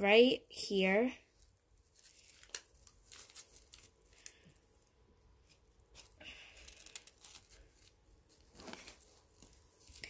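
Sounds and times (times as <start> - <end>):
gauze pad rustling: 1.3 - 10.0.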